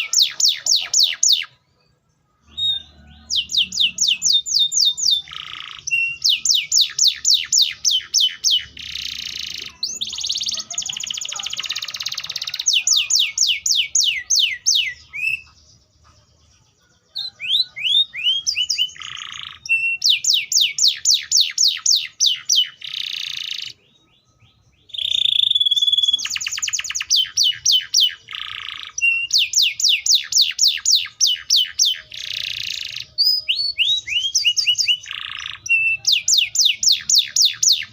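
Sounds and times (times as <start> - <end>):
canary singing: 0.0 - 37.9.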